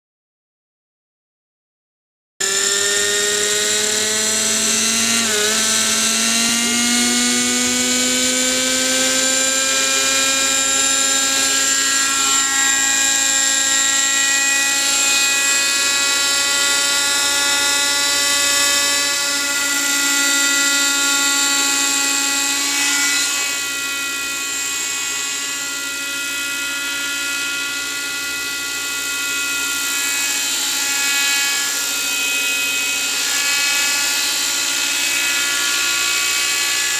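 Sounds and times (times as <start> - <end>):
model helicopter engine whine: 2.4 - 36.9.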